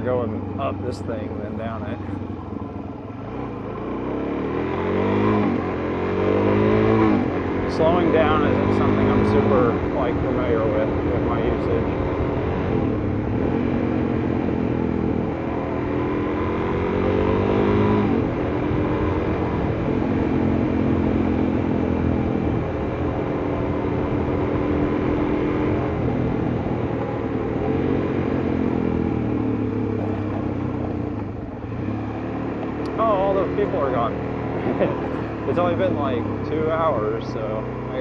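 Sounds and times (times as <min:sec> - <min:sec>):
motorcycle engine revving: 0:00.0 - 0:38.0
road and wind noise: 0:00.0 - 0:38.0.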